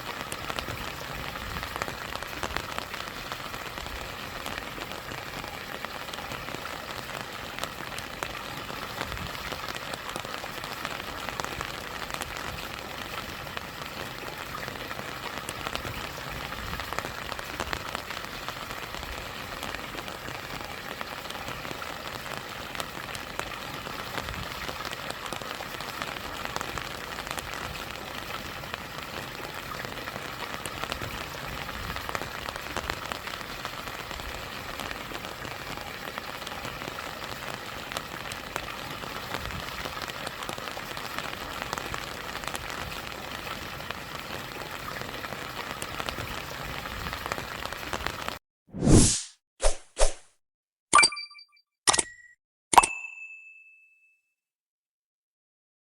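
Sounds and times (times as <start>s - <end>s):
rain falling: 0.0s - 48.4s
small waterfall: 0.0s - 48.4s.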